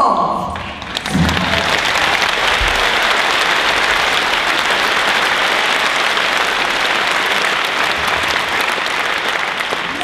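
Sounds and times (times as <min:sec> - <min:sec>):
audience applauding and cheering: 0:00.6 - 0:10.0.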